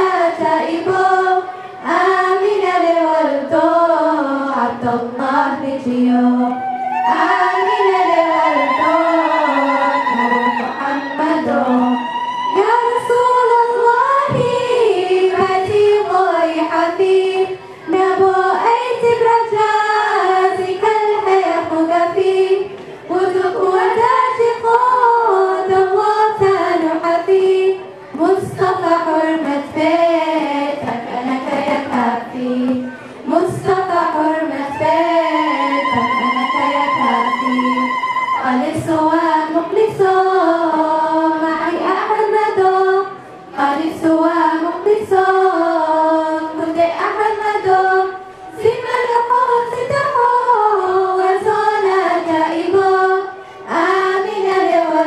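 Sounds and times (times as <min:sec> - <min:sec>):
girls singing into microphones: 0:00.0 - 0:55.0.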